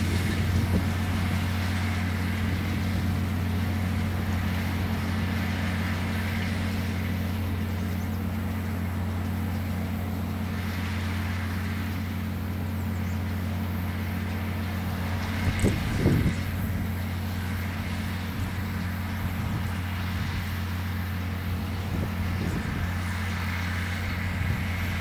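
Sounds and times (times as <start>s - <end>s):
tractor diesel engine droning: 0.0s - 25.0s.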